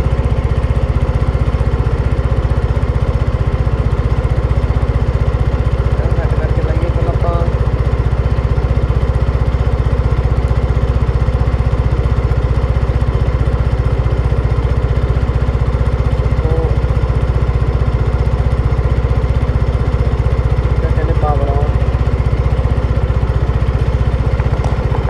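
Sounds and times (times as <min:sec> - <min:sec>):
motor scooter engine running: 0:00.0 - 0:25.0.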